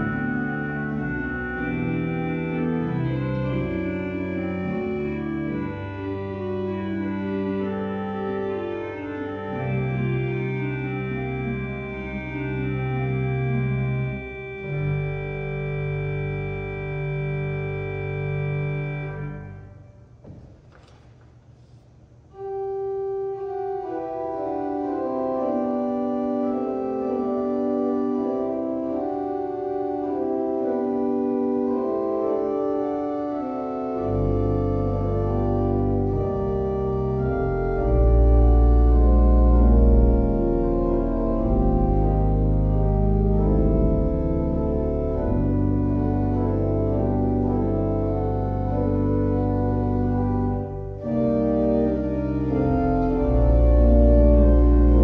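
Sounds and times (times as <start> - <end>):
deep organ bass notes: 0.0 - 20.6, 22.3 - 55.0
church organ chords: 0.0 - 20.9, 22.2 - 55.0.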